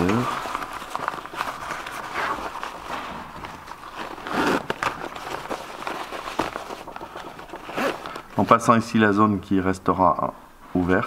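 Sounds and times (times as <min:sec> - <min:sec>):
nylon fabric rustling: 0:00.0 - 0:08.9.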